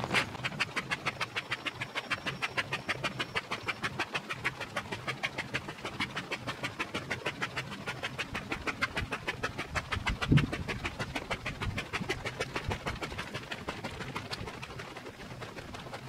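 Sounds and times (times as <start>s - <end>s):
foot pump air puffs: 0.0s - 16.0s.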